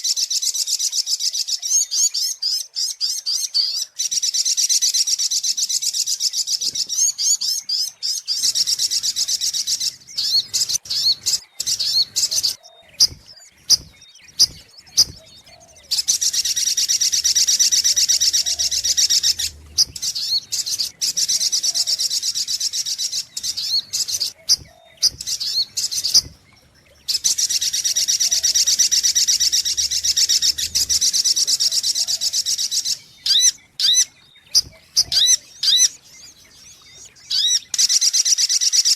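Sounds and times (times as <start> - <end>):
bird rapid high chipping calls: 0.0 - 38.9.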